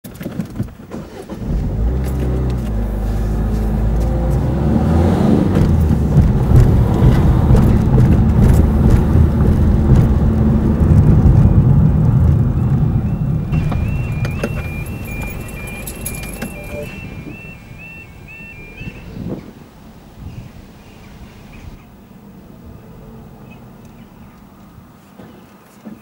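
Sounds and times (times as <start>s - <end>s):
tyre road noise: 0.0s - 26.0s
car engine rumble: 0.1s - 26.0s.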